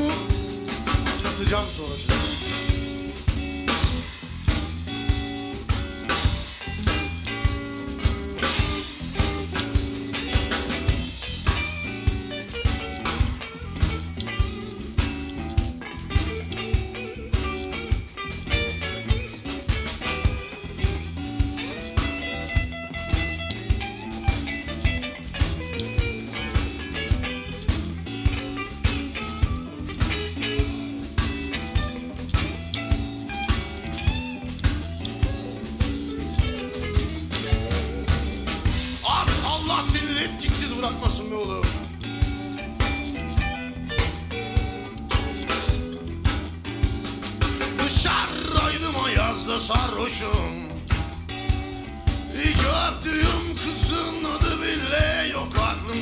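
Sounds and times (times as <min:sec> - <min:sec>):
bass notes: 0:00.0 - 0:56.0
drum kit with cymbals: 0:00.0 - 0:56.0
electric guitars: 0:00.0 - 0:56.0.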